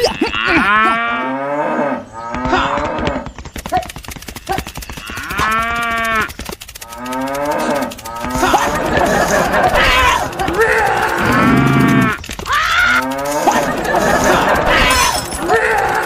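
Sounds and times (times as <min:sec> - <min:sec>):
cattle mooing: 0:00.0 - 0:03.2, 0:04.4 - 0:16.0
clatter of small clicks: 0:02.4 - 0:16.0.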